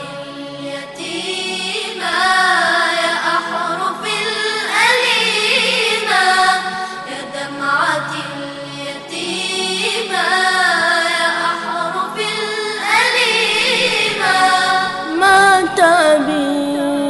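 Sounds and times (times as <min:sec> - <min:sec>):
voices singing held notes: 0:00.0 - 0:17.0.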